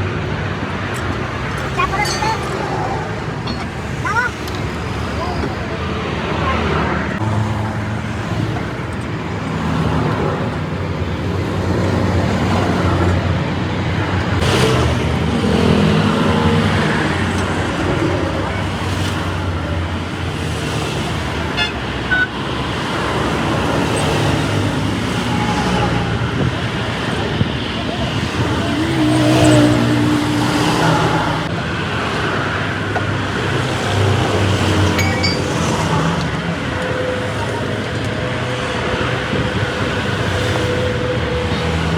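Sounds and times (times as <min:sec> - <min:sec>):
road noise: 0:00.0 - 0:41.9
vehicle engines droning: 0:00.0 - 0:41.9.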